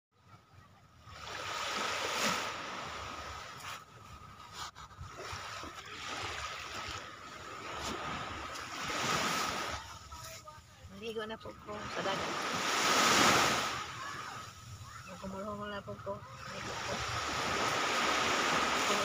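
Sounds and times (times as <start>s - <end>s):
small waves washing on shore: 1.0s - 19.0s.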